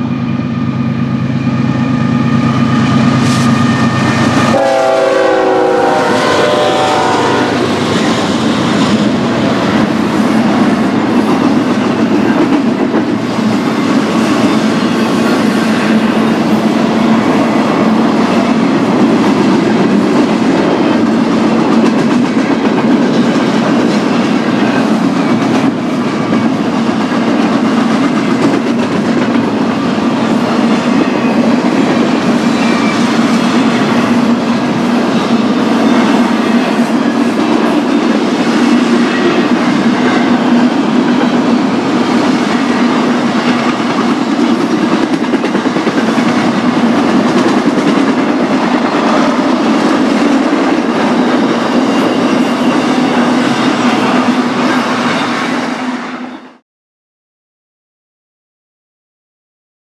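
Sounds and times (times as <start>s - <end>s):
freight train wheels rumbling on rails: 0.0s - 56.6s.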